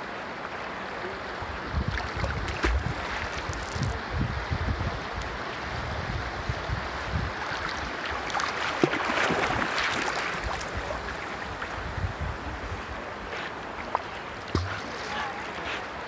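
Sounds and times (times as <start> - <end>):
water rippling and splashing: 0.0 - 4.2, 5.0 - 16.0.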